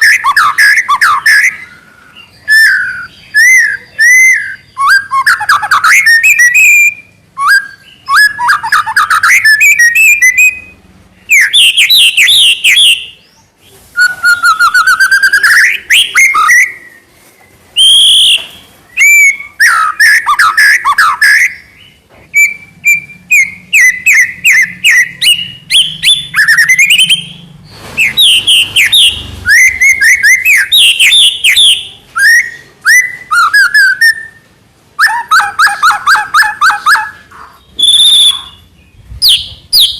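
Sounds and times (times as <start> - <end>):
songbird singing rapid phrases: 0.0 - 39.9.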